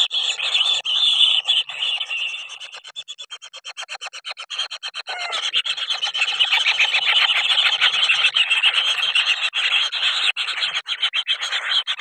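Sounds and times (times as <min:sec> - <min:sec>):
bird chicks calling: 0:00.0 - 0:12.0.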